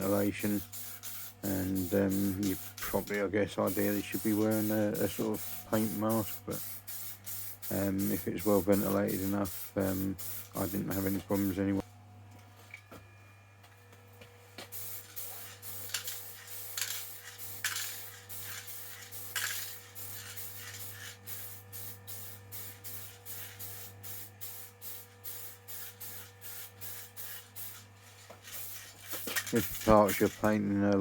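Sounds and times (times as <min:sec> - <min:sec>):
spray paint can hissing: 0:00.0 - 0:11.6, 0:14.7 - 0:30.5.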